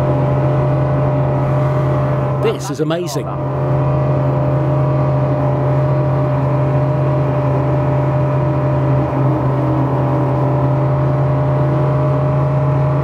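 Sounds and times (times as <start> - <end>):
outboard engine running hard: 0.0 - 13.0.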